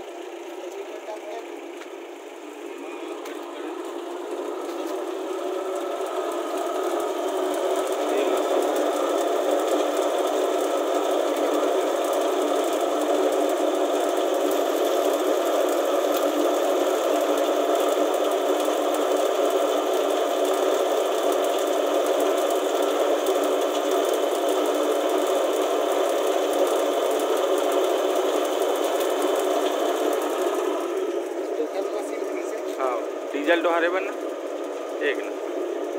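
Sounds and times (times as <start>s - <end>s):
fuel pump whirring: 0.0s - 35.9s.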